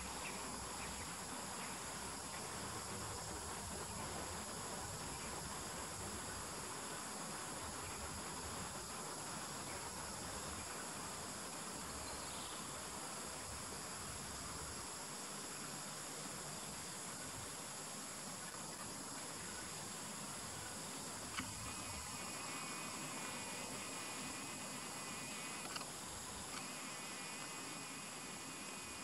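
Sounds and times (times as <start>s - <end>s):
low hiss: 0.0s - 29.0s
night insects trilling: 0.0s - 29.0s.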